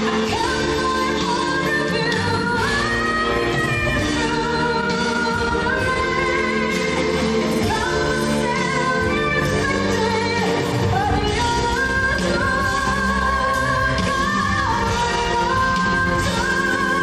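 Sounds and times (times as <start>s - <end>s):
band accompaniment: 0.0s - 17.0s
woman singing pop ballad: 0.0s - 17.0s.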